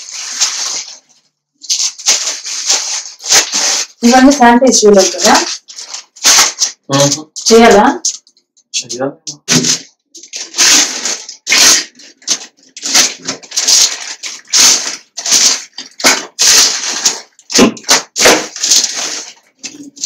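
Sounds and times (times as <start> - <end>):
plastic bag crinkling: 0.0 - 8.3, 9.5 - 20.0.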